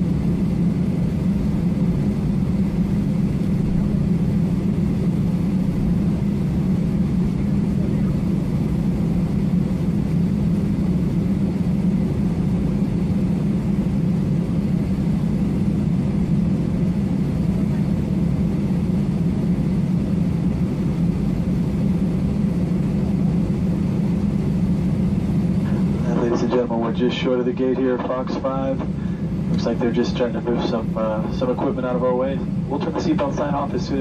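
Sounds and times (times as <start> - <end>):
jet engines idling: 0.0 - 34.0.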